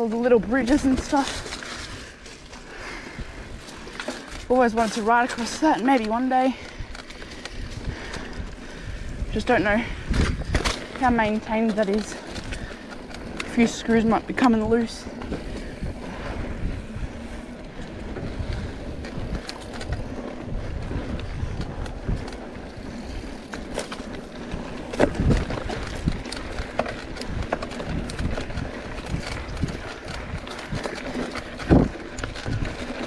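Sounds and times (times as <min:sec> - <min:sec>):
bike clicks and rattles: 0:00.0 - 0:33.0
bike tyres rolling on dirt: 0:00.0 - 0:33.0
wind buffeting microphone: 0:00.0 - 0:33.0.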